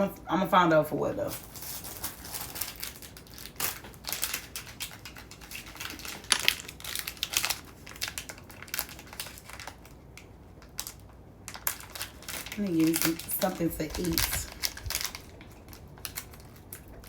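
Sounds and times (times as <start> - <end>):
plastic packaging crinkling: 1.2 - 17.0.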